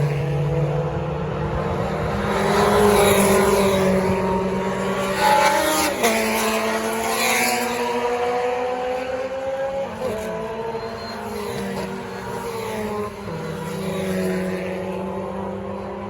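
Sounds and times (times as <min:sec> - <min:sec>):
racing car engines running hard: 0:00.0 - 0:16.0.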